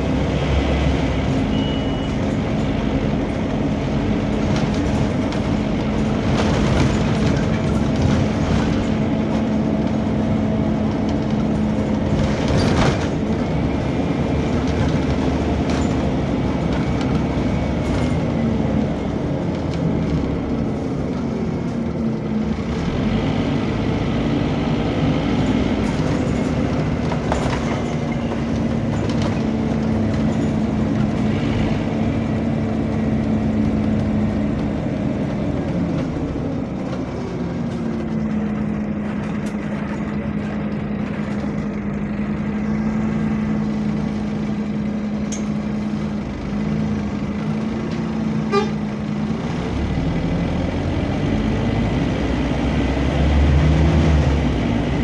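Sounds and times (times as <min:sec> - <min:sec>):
bus engine and cooling fan drone: 0:00.0 - 0:55.0.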